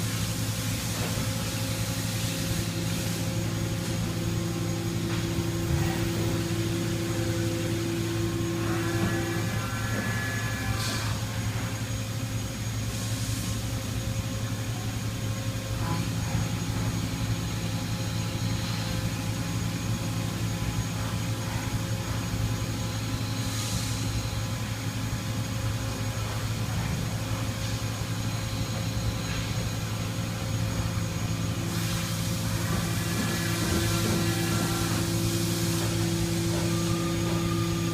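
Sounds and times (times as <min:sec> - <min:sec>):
milling machine hum: 0:00.0 - 0:37.9.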